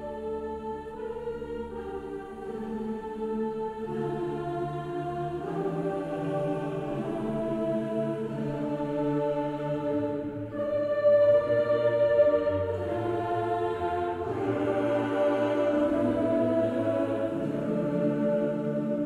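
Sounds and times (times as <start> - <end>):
slow sustained music chords: 0.0 - 19.0.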